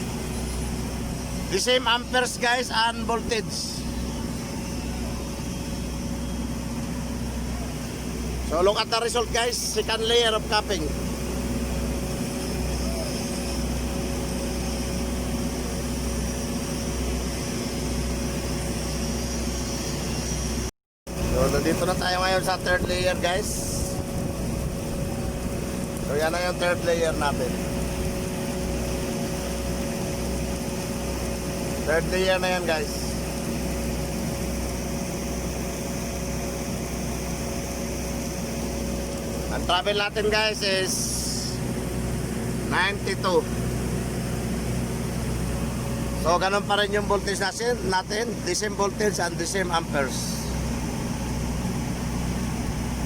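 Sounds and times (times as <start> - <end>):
low hum: 0.0 - 53.0
machinery drone: 0.0 - 53.0.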